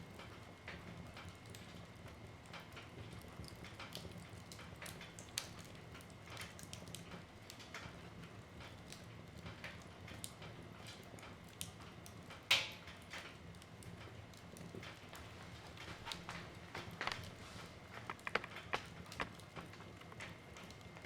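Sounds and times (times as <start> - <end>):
wood fire crackling: 0.2 - 21.0.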